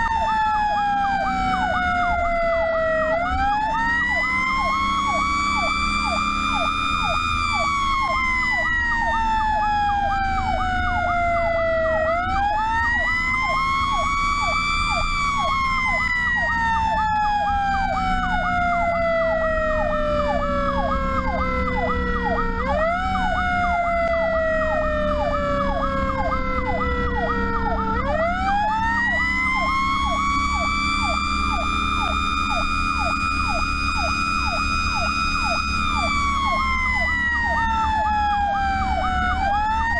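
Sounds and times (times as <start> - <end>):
truck engine droning: 0.0 - 39.9
wail siren: 0.0 - 39.9
yelp siren: 0.0 - 39.9.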